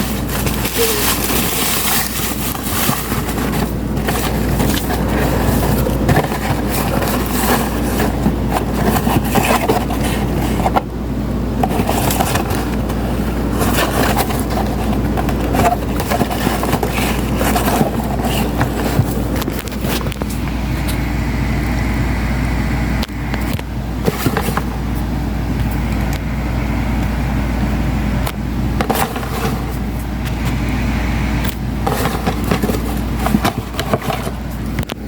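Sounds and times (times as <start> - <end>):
handling rustling and scraping: 0.0 - 21.1, 23.3 - 26.2, 28.8 - 35.0
low hum: 0.0 - 35.0.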